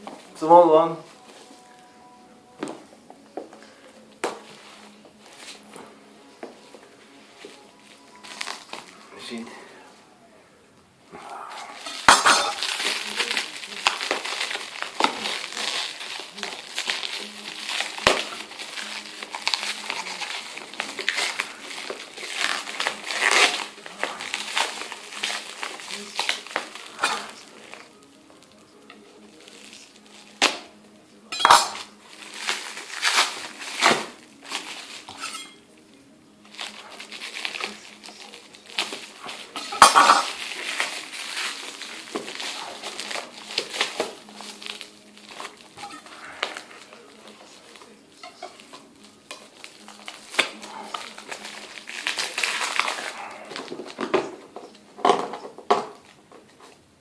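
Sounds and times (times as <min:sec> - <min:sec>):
packaging rustling and crinkling: 0:00.0 - 0:09.7, 0:11.2 - 0:56.8.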